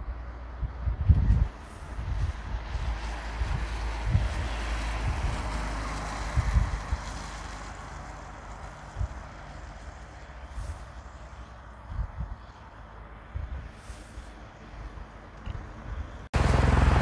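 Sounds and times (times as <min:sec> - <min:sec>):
distant turboprop engines rushing: 0:00.0 - 0:17.0
wind buffeting microphone: 0:00.0 - 0:17.0.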